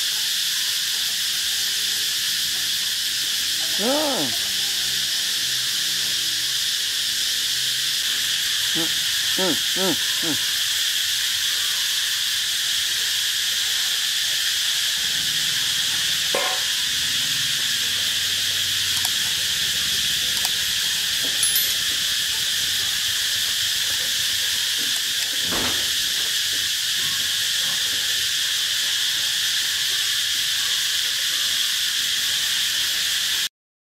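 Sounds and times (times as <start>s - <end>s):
high-pitched insect chorus: 0.0s - 33.5s.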